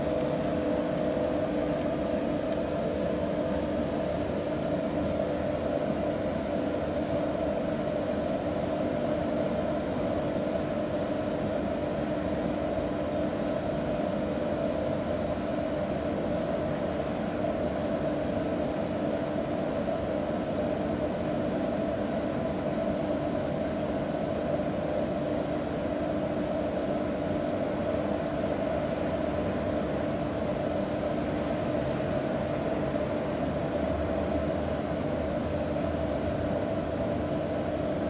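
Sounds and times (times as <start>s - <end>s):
ventilation fans droning: 0.0s - 38.0s.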